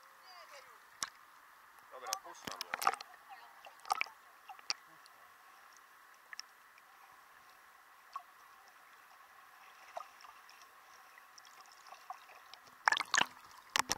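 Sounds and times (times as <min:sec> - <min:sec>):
small underwater clicks and crackles: 0:00.9 - 0:13.9.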